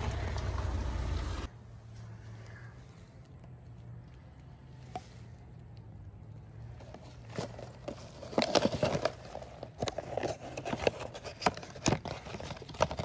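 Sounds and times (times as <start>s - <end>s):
rustling: 1.6s - 13.0s.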